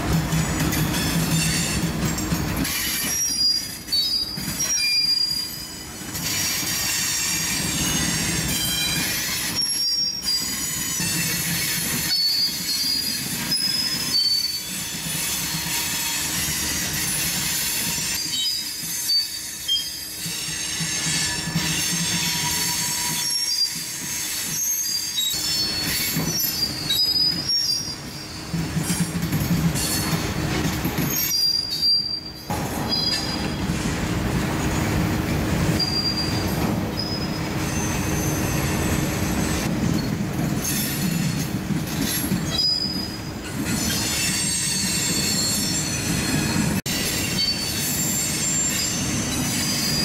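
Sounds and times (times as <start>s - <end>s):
train wheels squealing: 0.0s - 34.8s, 35.6s - 50.0s
freight train rumble and rattle: 0.0s - 50.0s.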